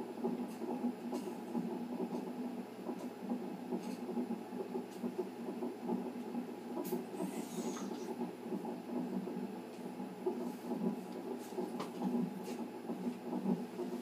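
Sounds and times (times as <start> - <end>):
fetal heartbeat on monitor speaker: 0.0 - 14.0.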